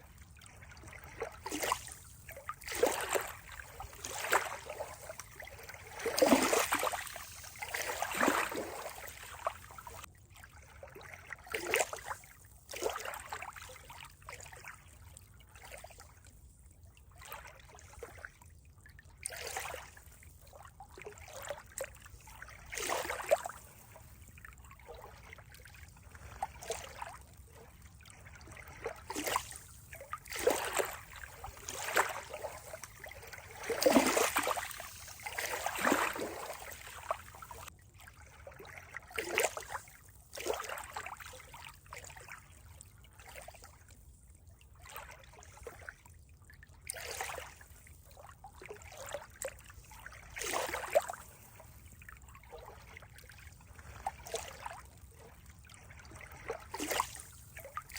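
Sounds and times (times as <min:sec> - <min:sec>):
water trickling and splashing: 0:00.0 - 0:57.9.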